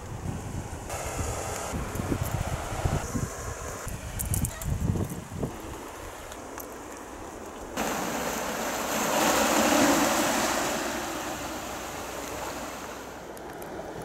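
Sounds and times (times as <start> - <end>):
sea surf on rocky shore: 0.0 - 14.0.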